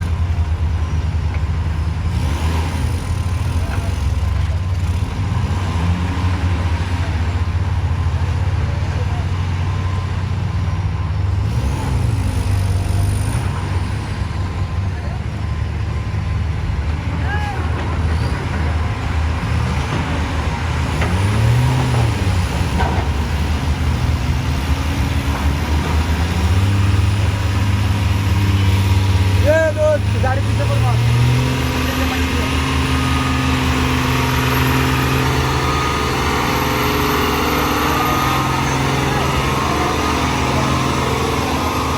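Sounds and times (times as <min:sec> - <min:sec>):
truck diesel engine droning: 0:00.0 - 0:41.9.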